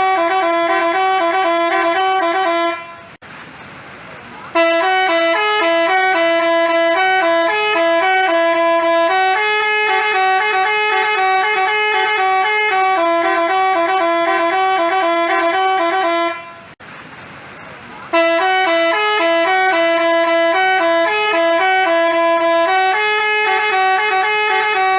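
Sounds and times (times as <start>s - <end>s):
bus musical horn playing a tune: 0.0s - 3.2s, 4.5s - 16.8s, 18.1s - 24.9s.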